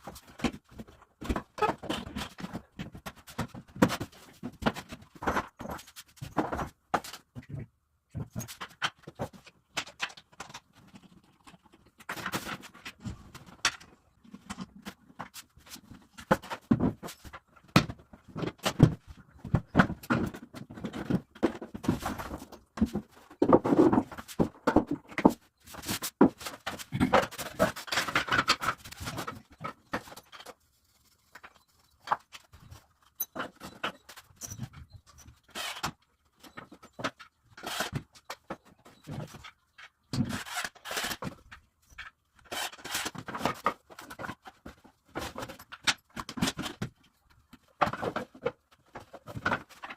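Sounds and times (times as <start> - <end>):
cabinet parts clicking and knocking: 0.0 - 30.6, 31.3 - 49.9.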